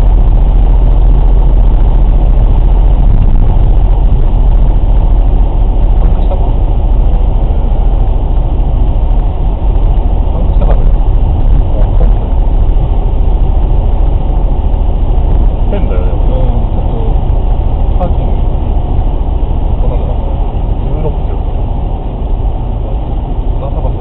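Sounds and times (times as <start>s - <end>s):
vehicle engine low rumble: 0.0s - 24.0s.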